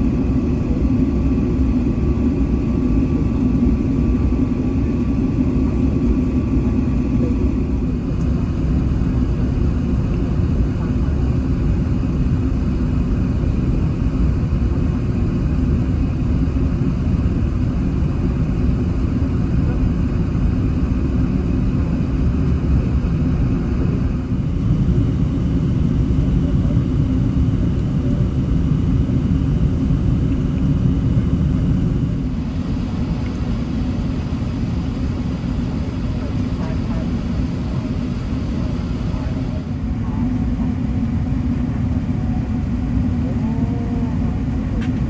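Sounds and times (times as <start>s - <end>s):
aircraft cabin engine rumble: 0.0s - 45.0s.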